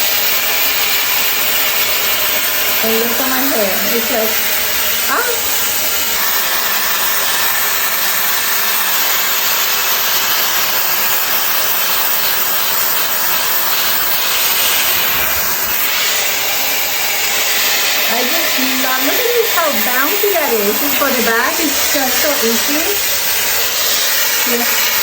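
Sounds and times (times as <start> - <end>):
air styler blowing air: 0.0 - 25.0.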